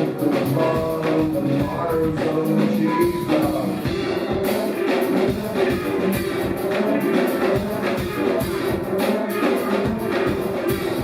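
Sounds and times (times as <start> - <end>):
live rock band playing: 0.0 - 11.0
steady drum beat: 0.0 - 11.0.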